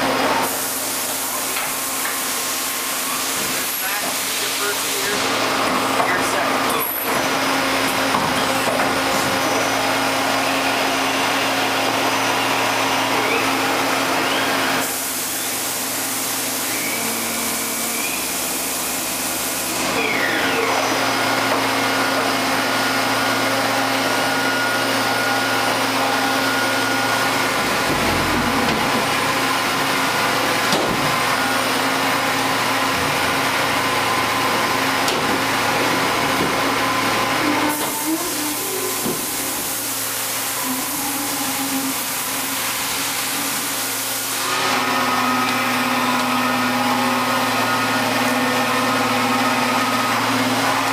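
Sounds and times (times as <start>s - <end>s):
machine whine and hum: 0.0s - 50.9s.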